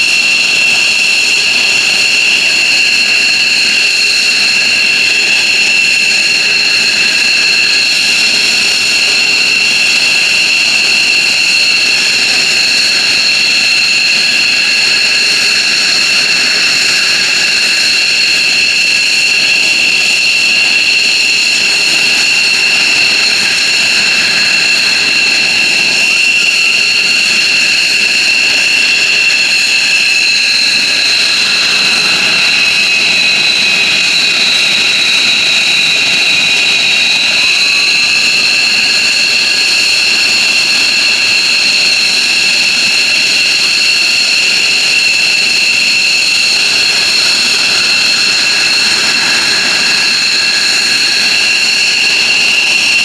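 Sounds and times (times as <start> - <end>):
jet engines idling: 0.0 - 53.0.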